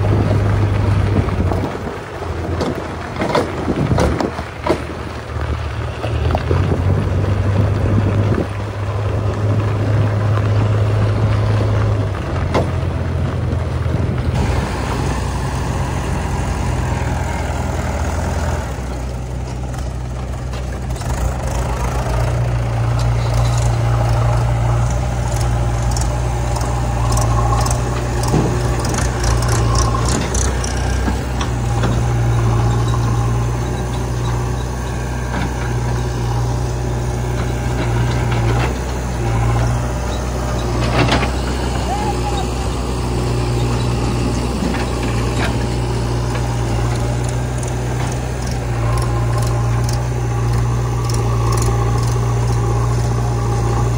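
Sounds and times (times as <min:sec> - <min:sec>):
backhoe diesel engine droning: 0:00.0 - 0:53.9
tractor diesel engine running: 0:00.0 - 0:53.9.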